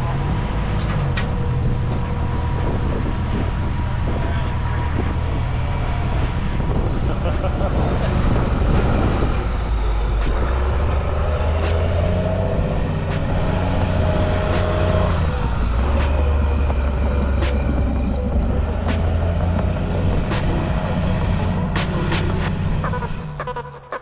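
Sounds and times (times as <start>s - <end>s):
diesel truck engine under load: 0.0s - 23.4s.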